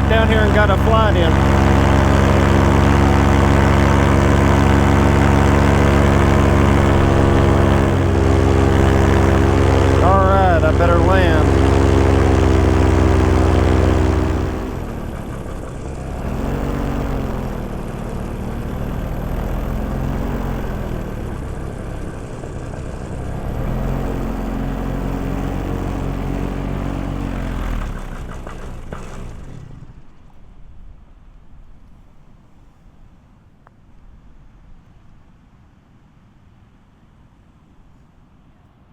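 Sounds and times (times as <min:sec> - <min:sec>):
small propeller engine running: 0:00.0 - 0:31.2.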